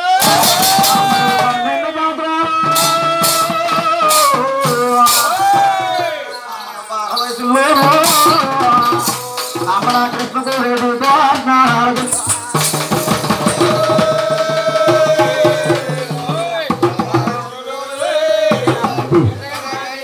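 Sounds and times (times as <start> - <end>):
drums and rattling percussion: 0.0 - 20.0.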